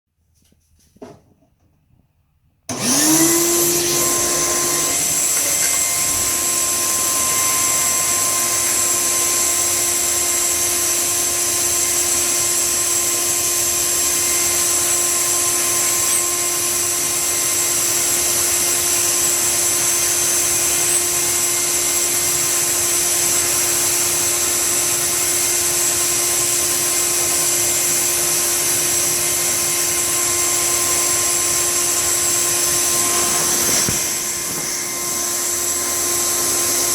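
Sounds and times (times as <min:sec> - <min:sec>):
electric blower motor whine: 0:02.7 - 0:36.9.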